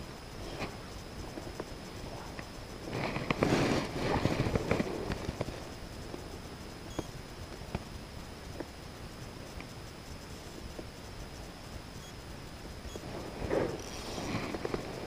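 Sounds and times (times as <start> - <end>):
faint ticks: 0.0 - 15.0.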